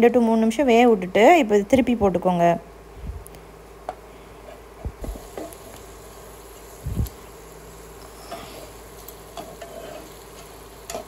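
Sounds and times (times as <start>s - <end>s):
steady buzzing hum: 0.0s - 11.0s.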